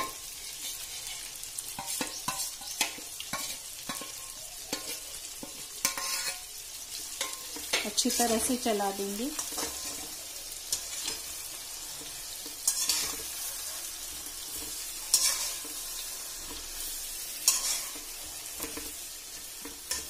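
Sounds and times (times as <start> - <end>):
metal spatula scraping pan: 0.0 - 8.7, 9.3 - 20.0
vegetables sizzling in oil: 0.0 - 20.0.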